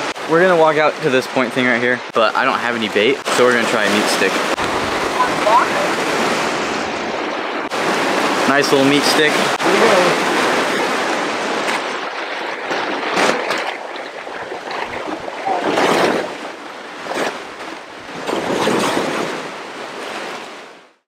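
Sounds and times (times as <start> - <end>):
surf breaking over rocks: 0.0 - 20.6.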